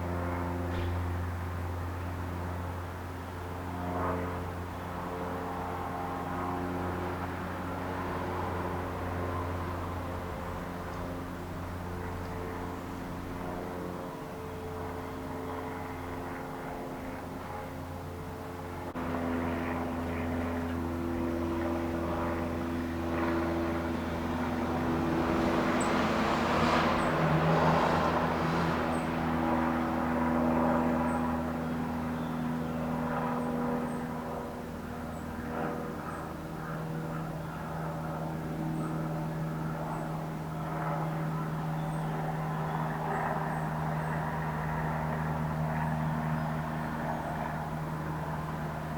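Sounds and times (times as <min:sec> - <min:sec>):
motor traffic drone: 0:00.0 - 0:48.9.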